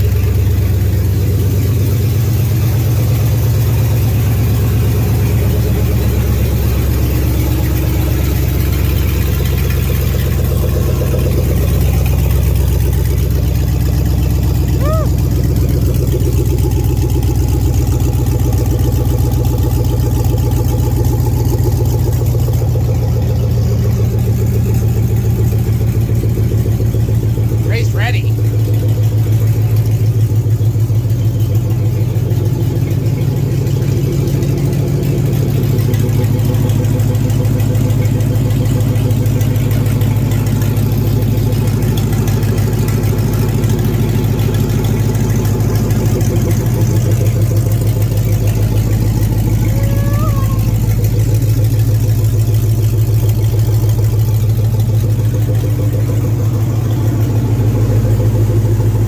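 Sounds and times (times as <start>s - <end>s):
pickup engine idling: 0.0s - 59.0s.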